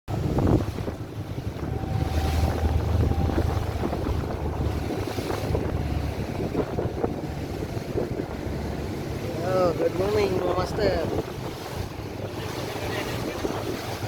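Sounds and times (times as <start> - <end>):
boat engine low rumble: 0.1 - 14.0
water washing past: 0.1 - 14.0
wind buffeting microphone: 0.1 - 14.0.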